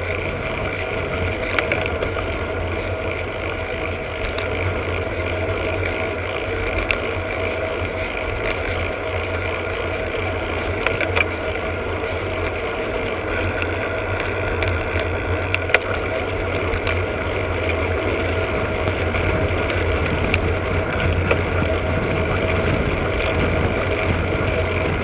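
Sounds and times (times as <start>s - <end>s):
bike tyres rumbling on asphalt: 0.0s - 25.0s
faint whine: 0.0s - 25.0s.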